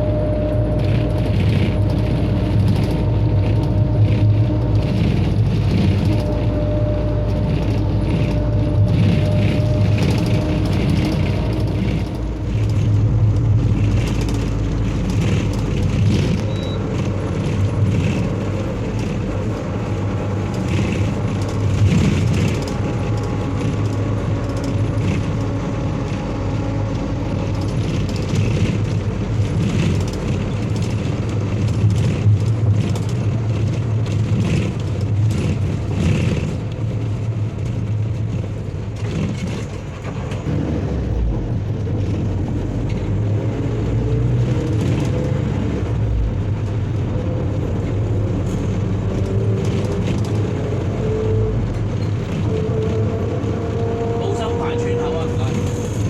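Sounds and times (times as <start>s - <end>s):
road noise: 0.0s - 56.0s
vehicle engine humming: 0.0s - 56.0s.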